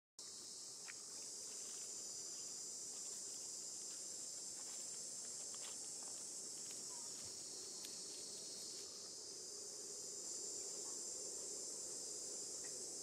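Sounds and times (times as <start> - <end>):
high-pitched insect chorus: 0.2 - 13.0.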